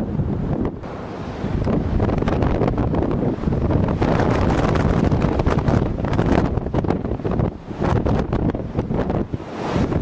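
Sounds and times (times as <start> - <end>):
strong wind buffeting microphone: 0.0 - 10.0.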